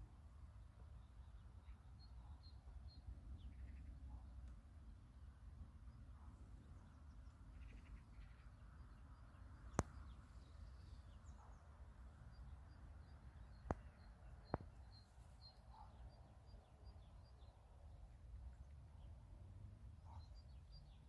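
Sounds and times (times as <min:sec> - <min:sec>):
small birds chirping: 0:00.6 - 0:04.6, 0:05.7 - 0:21.0.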